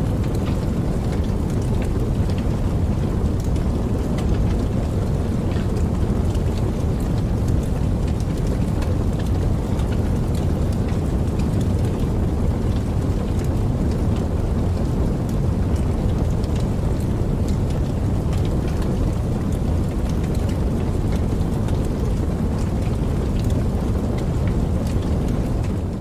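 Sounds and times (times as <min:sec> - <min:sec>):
heavy rainfall: 0:00.0 - 0:26.0.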